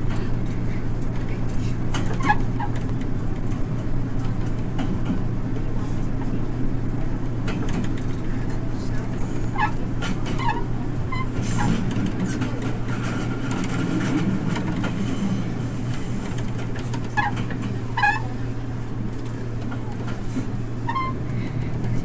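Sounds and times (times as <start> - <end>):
railcar engine hum: 0.0 - 22.0
wheels rumbling on rails: 0.0 - 22.0.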